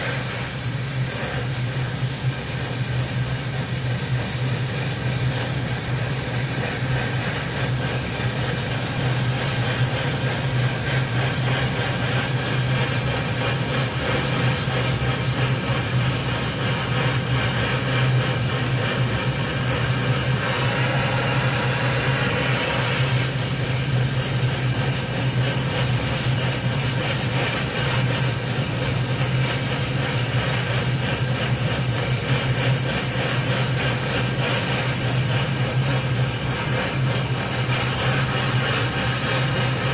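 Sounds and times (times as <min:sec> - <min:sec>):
welding torch flame hissing: 0:00.0 - 0:39.9.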